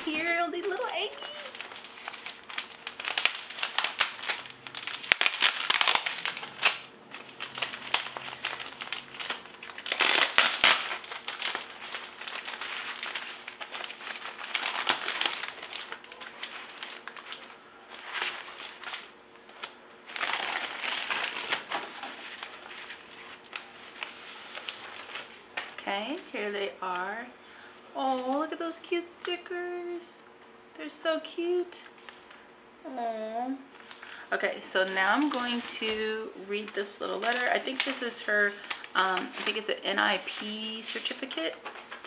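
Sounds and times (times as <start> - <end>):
bubble wrap crinkling: 0.0 - 27.2, 27.9 - 28.6, 33.8 - 42.0.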